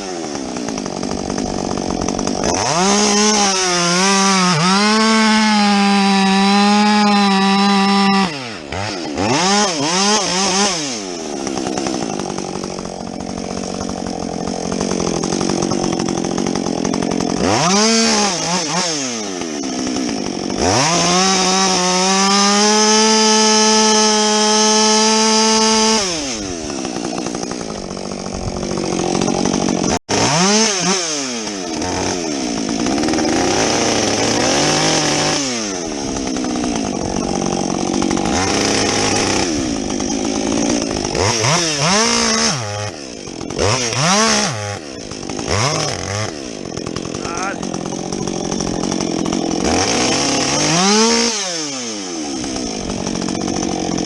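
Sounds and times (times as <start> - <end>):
chainsaw cutting wood at high revs: 0.0 - 54.0.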